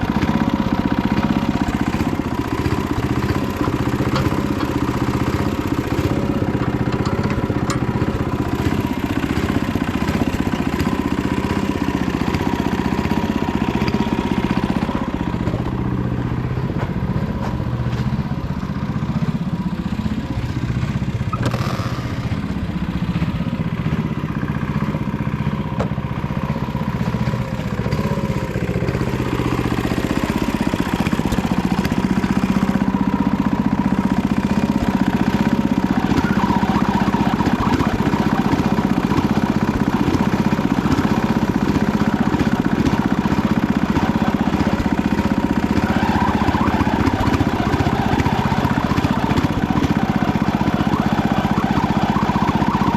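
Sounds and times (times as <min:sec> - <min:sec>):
clatter: 0:00.0 - 0:52.9
tractor engine running: 0:00.0 - 0:52.9.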